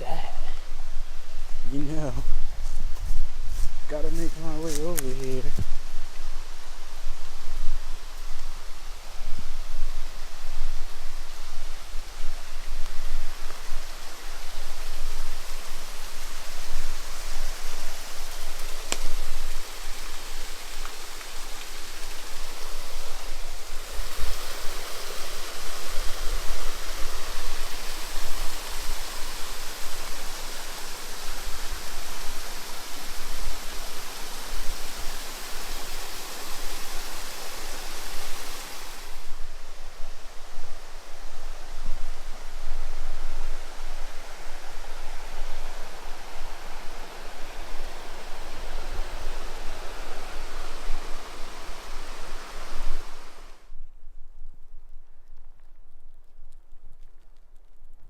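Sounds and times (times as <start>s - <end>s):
mountain stream rushing: 0.0s - 53.7s.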